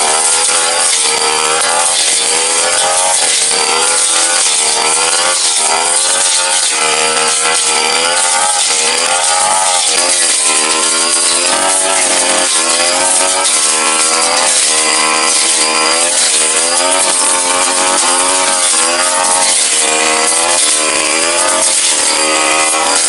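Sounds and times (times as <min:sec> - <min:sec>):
brush cutter engine at high revs: 0:00.0 - 0:23.0.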